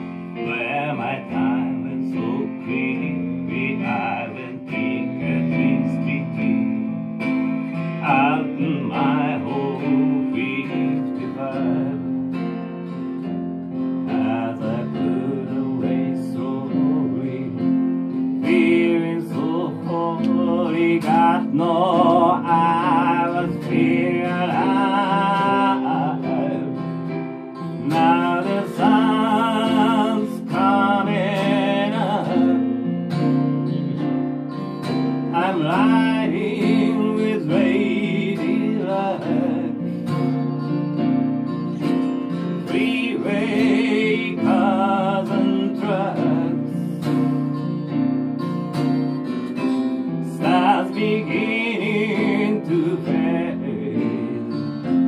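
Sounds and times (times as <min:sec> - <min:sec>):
man singing: 0:00.0 - 0:12.9, 0:13.8 - 0:33.4, 0:34.8 - 0:40.6, 0:42.3 - 0:47.6, 0:49.6 - 0:55.0
acoustic guitar strumming: 0:00.0 - 0:55.0
keyboard accompaniment: 0:00.0 - 0:55.0.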